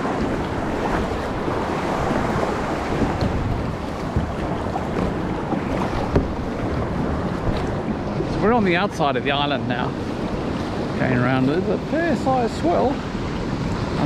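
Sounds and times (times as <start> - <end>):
sea swell washing: 0.0 - 14.0
wind buffeting microphone: 0.0 - 14.0.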